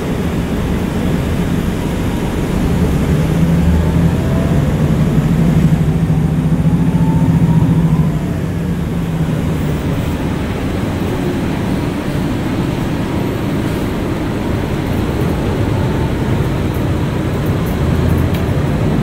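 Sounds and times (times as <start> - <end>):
faint whine: 0.0 - 17.5
bus diesel engine: 0.0 - 19.0.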